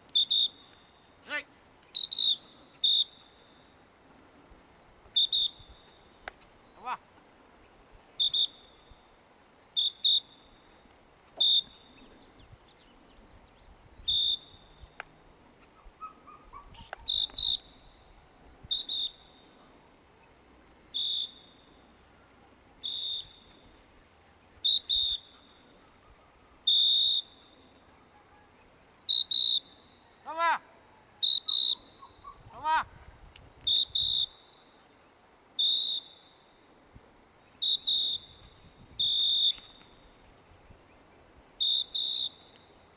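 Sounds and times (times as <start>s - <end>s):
short calls: 0.0s - 3.9s, 5.0s - 7.2s, 8.1s - 12.2s, 14.0s - 34.9s, 35.6s - 36.7s, 37.5s - 40.3s, 41.6s - 42.8s.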